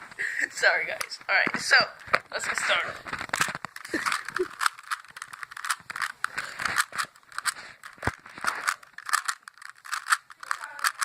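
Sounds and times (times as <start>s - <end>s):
puzzle cube clicking: 0.9s - 11.0s.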